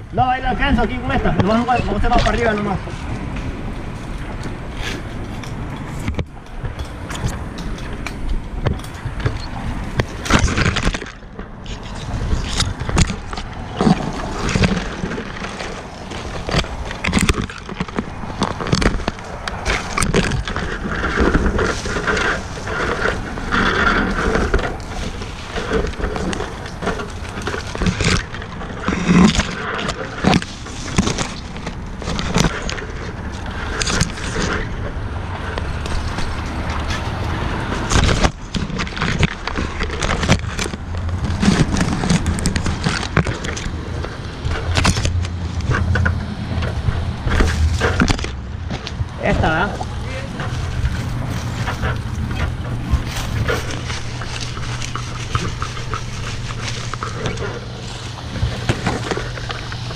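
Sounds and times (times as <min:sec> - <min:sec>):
leafy branches rustling: 0:00.0 - 0:59.9
steady low rumble: 0:00.0 - 0:59.9
twigs snapping: 0:04.4 - 0:34.7, 0:35.3 - 0:49.2, 0:49.8 - 0:59.9.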